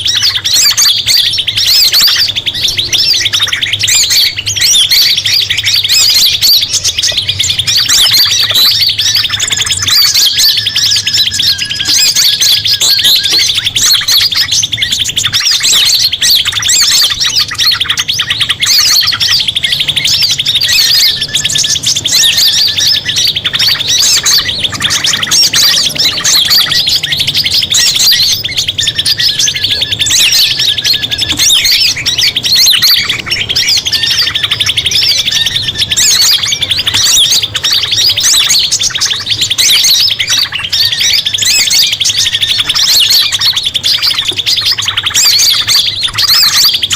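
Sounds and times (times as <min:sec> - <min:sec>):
short whistled bird calls: 0:00.0 - 0:46.9
songbirds chirping and trilling: 0:00.0 - 0:46.9.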